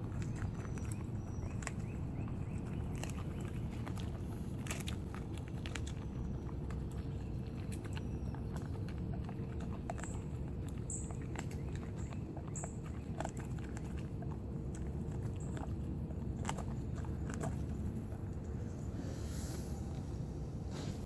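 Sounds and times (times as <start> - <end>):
dog crunching frozen bone: 0.0 - 19.0
steady low rumble: 0.0 - 21.0.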